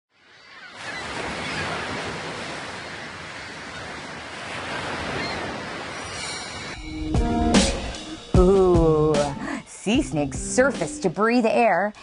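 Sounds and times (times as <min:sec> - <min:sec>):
ocean waves washing: 0:00.1 - 0:11.2.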